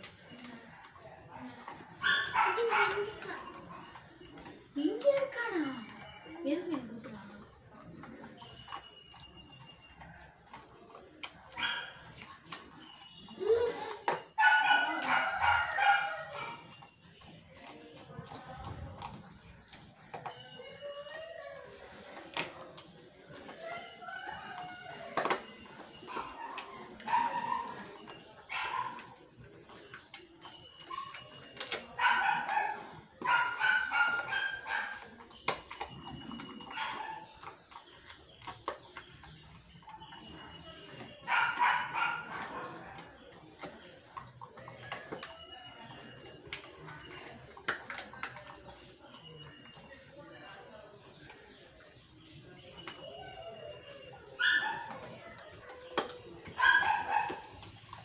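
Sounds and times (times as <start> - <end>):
dog chewing bones: 0.0 - 58.0.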